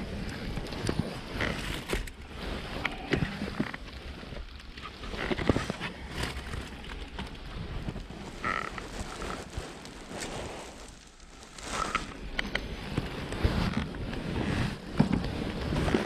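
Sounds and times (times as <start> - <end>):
fabric rustling on microphone: 0.0 - 16.0.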